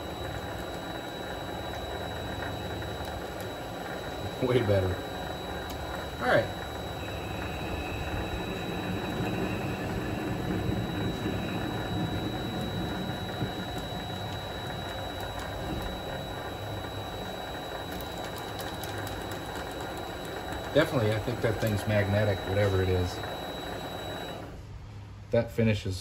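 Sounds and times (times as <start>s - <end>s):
lathe cutting steel: 0.0s - 24.5s
thin high whine: 0.0s - 24.8s.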